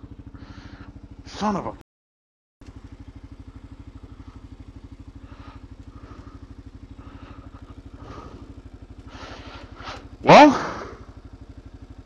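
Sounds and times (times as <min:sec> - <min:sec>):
motorcycle engine idling: 0:00.0 - 0:01.8, 0:02.6 - 0:12.0.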